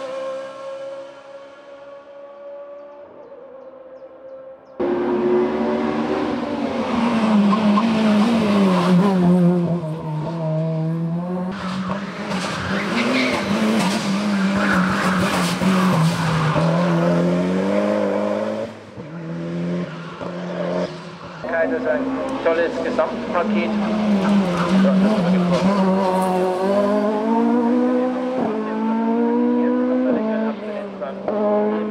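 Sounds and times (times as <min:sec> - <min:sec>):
racing car engine revving: 0:04.8 - 0:31.9.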